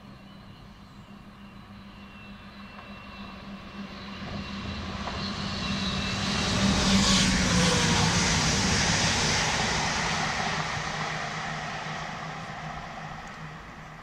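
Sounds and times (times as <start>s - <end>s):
diesel train engine hum: 0.0s - 14.0s.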